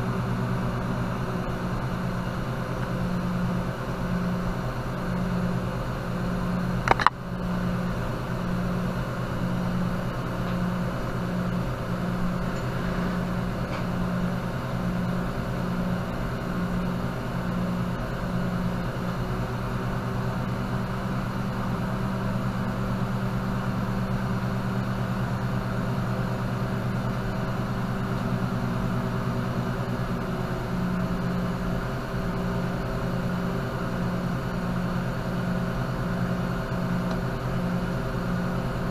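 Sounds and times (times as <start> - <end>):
machine hum: 0.0 - 38.9.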